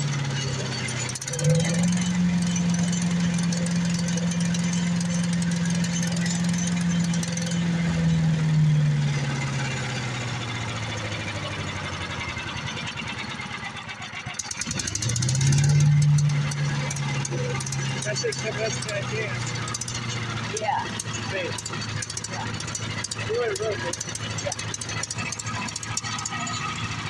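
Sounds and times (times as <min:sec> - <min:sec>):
wood chipper engine running: 0:00.0 - 0:27.0.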